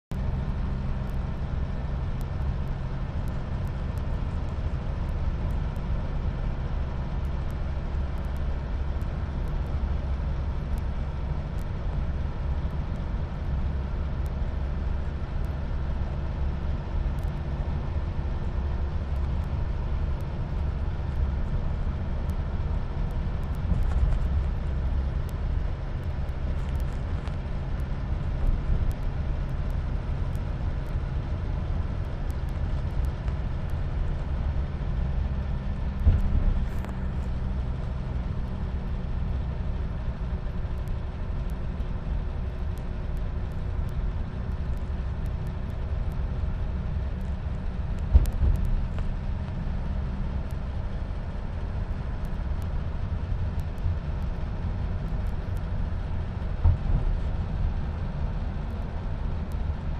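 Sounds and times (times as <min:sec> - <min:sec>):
truck engine drone: 0:00.1 - 0:59.9
tyre and road noise: 0:00.1 - 0:59.9.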